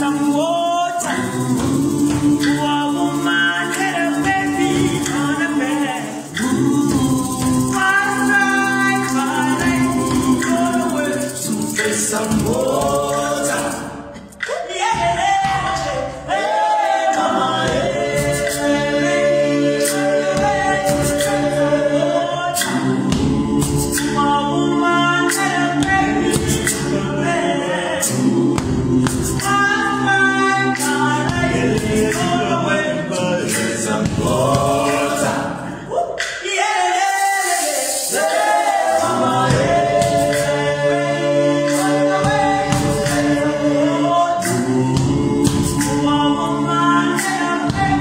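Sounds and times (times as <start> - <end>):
male group singing harmonies: 0.0 - 48.0.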